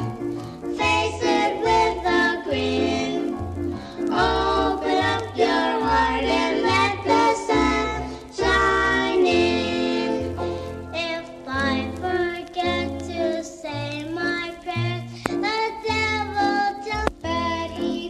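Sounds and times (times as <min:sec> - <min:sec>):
children singing: 0:00.0 - 0:18.0
instrumental backing with bass: 0:00.0 - 0:18.0.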